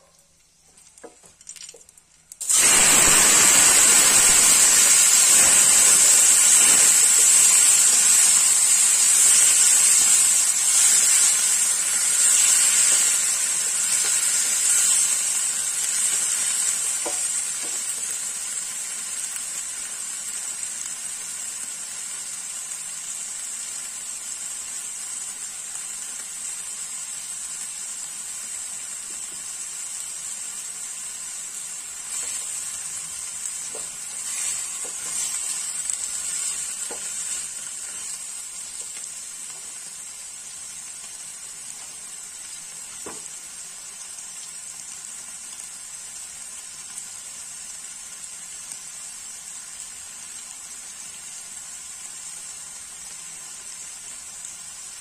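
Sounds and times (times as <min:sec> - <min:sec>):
tomatoes sizzling in frying pan: 0:00.0 - 0:55.0.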